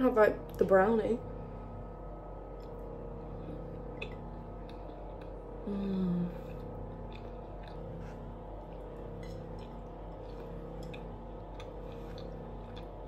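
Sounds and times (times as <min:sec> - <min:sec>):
appliance hum: 0:00.0 - 0:13.0
closed-mouth hum: 0:00.0 - 0:13.0
person chewing: 0:02.5 - 0:13.0.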